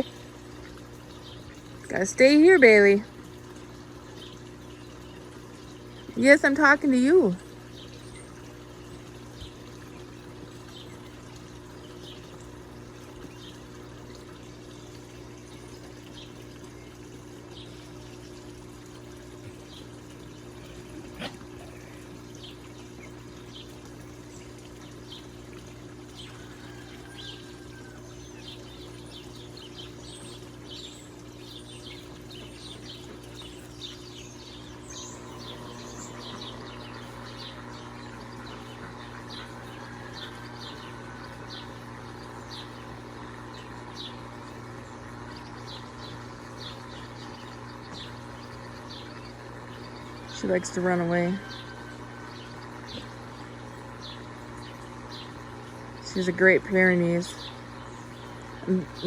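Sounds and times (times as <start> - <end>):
water pouring into a pond: 0.0 - 59.0.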